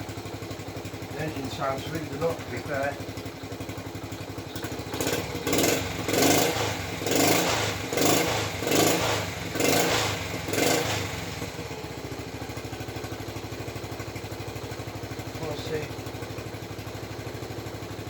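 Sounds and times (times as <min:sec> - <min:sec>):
motorcycle engine revving and idling: 0:00.0 - 0:18.0.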